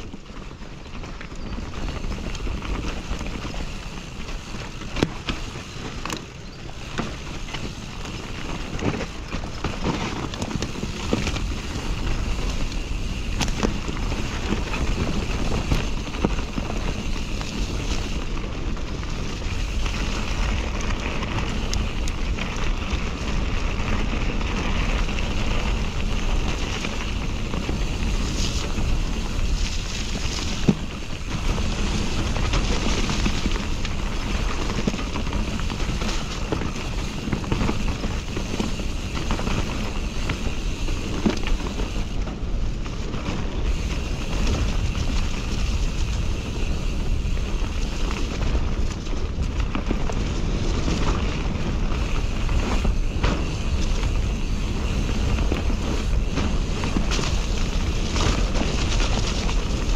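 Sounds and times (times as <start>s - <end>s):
bike knocking and rattling: 0.0s - 59.9s
bike tyre noise on dirt: 0.0s - 59.9s
wind rush on microphone: 0.0s - 59.9s.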